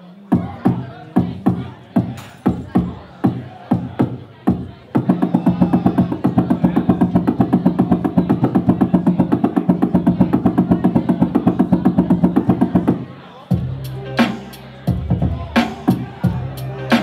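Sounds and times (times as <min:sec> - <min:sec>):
fast percussive hits: 0:00.4 - 0:16.2.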